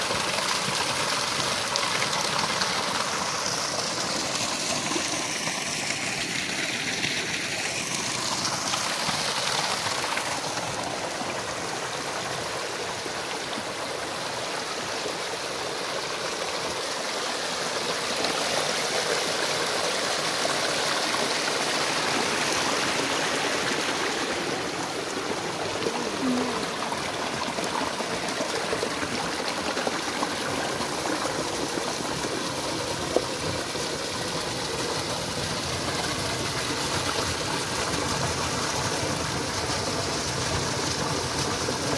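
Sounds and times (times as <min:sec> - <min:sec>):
stream running over stones: 0:00.0 - 0:41.9.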